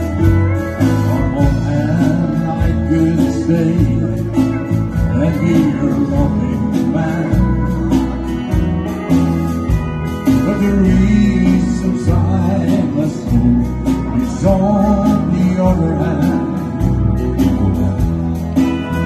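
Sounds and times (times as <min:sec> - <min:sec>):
live country band playing: 0:00.0 - 0:19.0.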